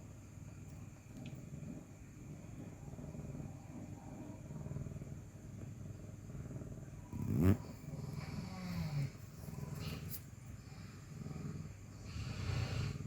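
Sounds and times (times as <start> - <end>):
cat purring: 1.1 - 13.0.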